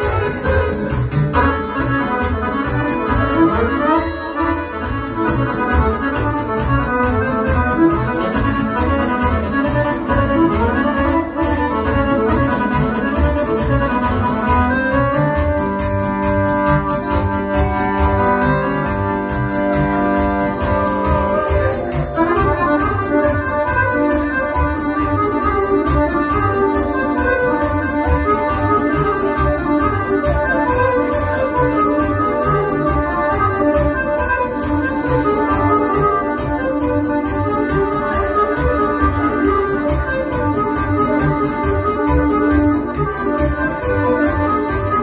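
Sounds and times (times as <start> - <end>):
keyboard and accordion melody: 0.0 - 45.0
steady bass beat: 0.0 - 45.0.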